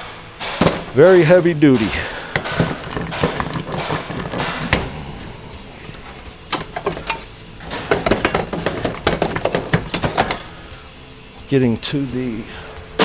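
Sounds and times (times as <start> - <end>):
metal parts clinking and knocking: 0.0 - 11.2.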